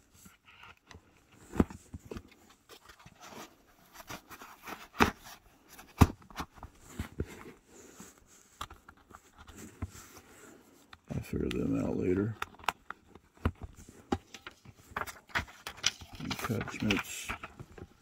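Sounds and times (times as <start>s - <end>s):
soft scraping and rustling: 0.0s - 18.0s.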